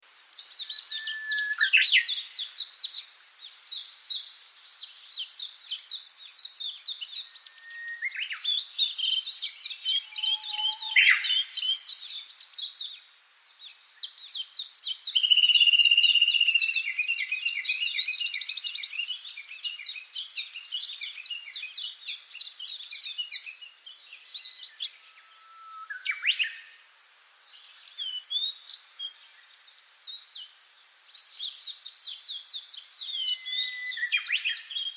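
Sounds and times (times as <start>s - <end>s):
small songbirds singing: 0.0s - 34.9s.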